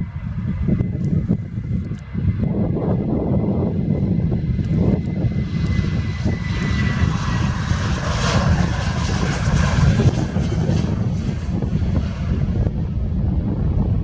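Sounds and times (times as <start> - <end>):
jet engines at take-off: 0.0 - 14.0.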